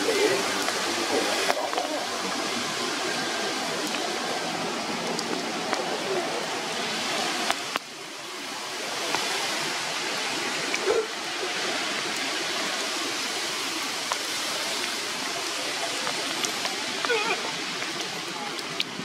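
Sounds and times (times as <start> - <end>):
rain falling on foliage: 0.0 - 19.0.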